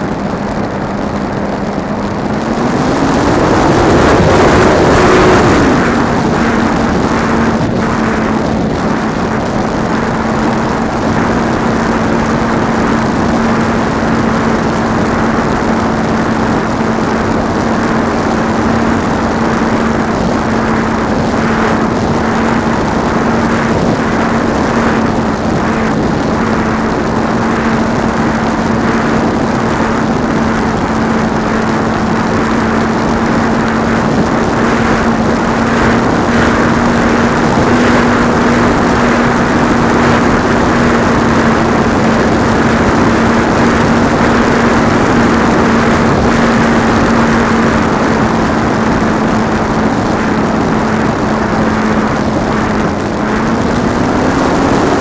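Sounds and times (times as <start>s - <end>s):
electric motor propeller drone: 0.0s - 55.0s
wind rush over microphone: 0.0s - 55.0s.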